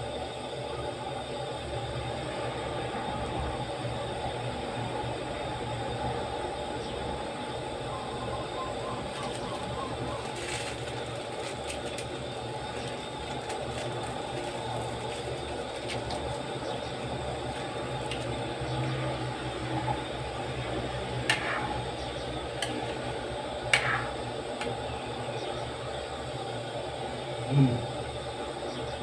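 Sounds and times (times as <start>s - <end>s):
stove burner rushing: 0.0s - 29.0s.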